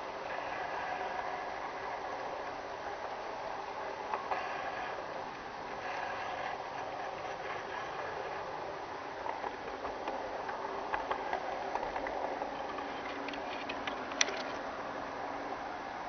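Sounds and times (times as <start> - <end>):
model train drive whirring: 0.0 - 16.0
wheels clicking over track: 0.0 - 16.0.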